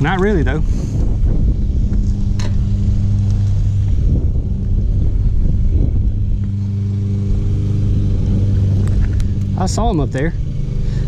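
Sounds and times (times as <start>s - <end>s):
electric trolling motor humming: 0.0s - 11.0s
low rumble: 0.0s - 11.0s.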